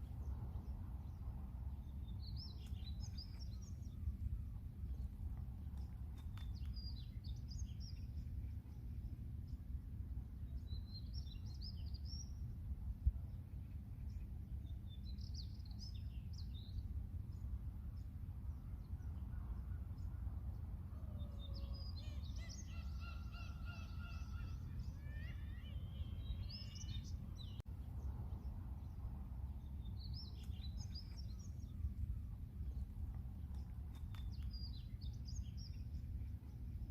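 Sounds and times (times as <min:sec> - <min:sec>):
steady low rumble: 0:00.0 - 0:22.7, 0:23.5 - 0:36.9.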